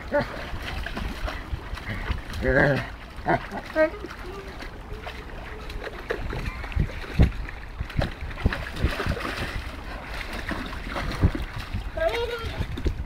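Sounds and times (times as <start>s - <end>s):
dog splashing and digging in stream: 0.0s - 13.0s
running water: 0.0s - 13.0s.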